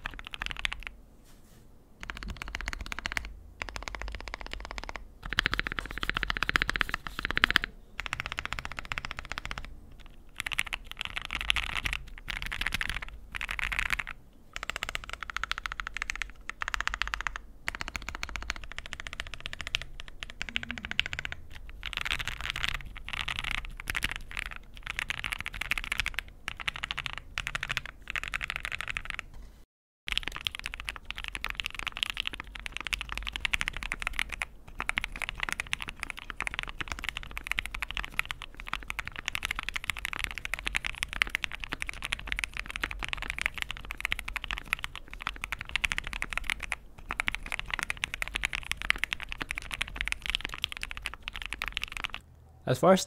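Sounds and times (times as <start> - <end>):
mechanical keyboard typing: 0.0 - 0.9, 2.0 - 29.3, 30.1 - 52.2.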